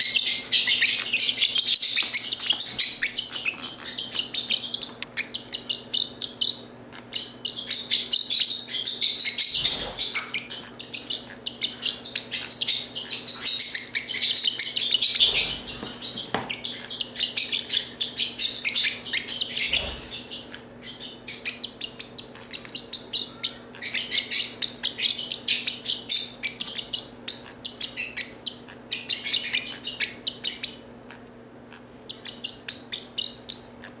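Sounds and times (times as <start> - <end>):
parrotlet chattering chirps: 0.0 - 34.0.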